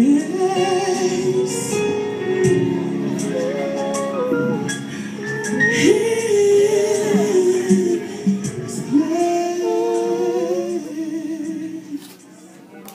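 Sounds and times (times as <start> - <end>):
people singing worship songs: 0.0 - 12.6.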